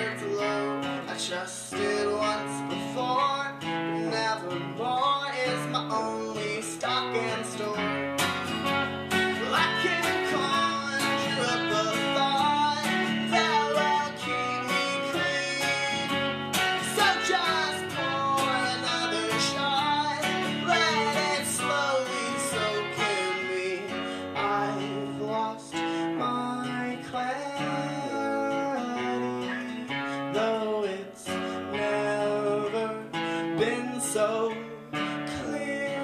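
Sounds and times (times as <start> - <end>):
acoustic guitar strumming chords: 0.0 - 36.0
electric guitar lead melody: 0.0 - 36.0.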